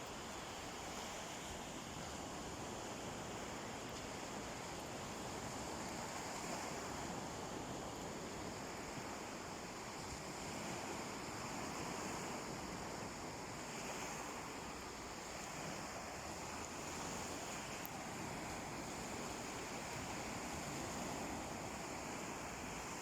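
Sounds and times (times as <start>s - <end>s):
sea waves washing on beach: 0.0s - 23.0s.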